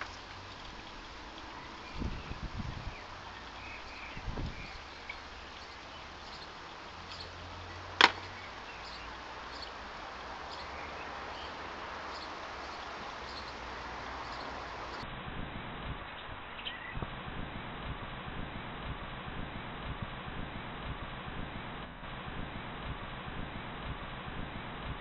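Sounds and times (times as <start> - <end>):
background hiss: 0.0 - 25.0.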